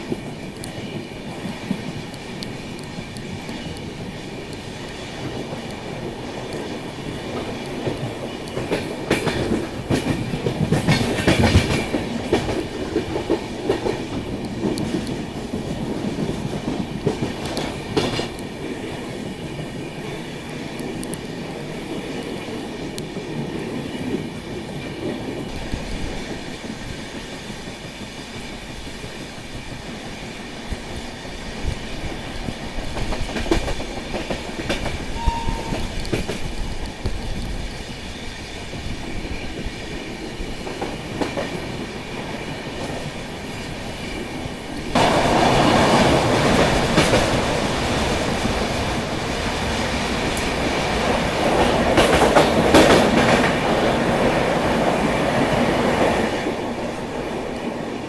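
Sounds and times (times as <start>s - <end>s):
loud train rush: 0.0s - 58.0s
train wheels clicking on rail joints: 0.0s - 58.0s.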